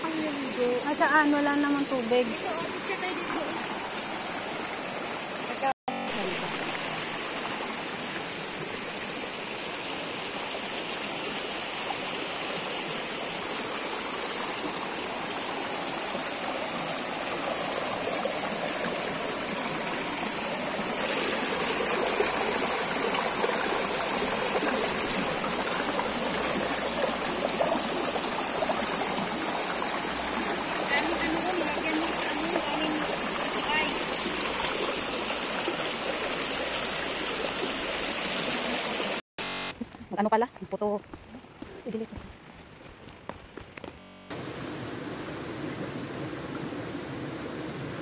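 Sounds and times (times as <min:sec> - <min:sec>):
stream running over rocks: 0:00.0 - 0:48.0.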